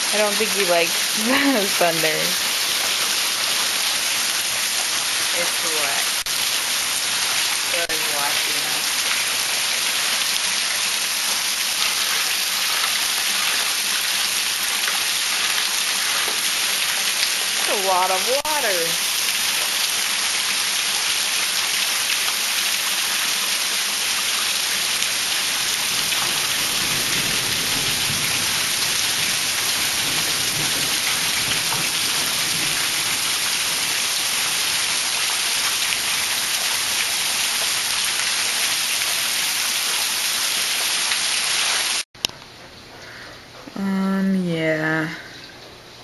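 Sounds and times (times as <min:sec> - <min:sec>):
heavy rain hissing: 0:00.0 - 0:42.0.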